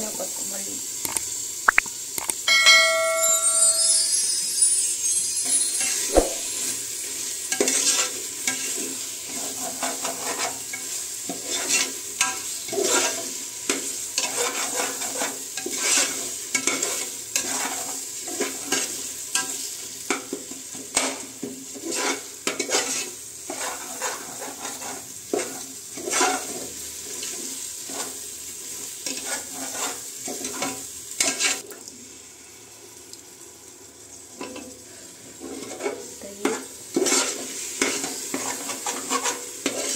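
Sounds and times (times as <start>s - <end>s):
masala sizzling in oil: 0.0s - 39.9s.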